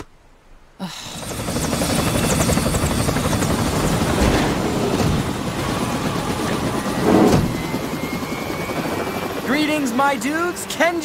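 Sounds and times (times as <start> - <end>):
helicopter rotor chopping: 1.0 - 11.0.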